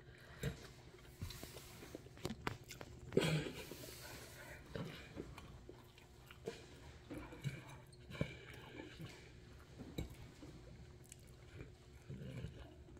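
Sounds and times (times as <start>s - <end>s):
person chewing noodles: 0.0s - 12.9s.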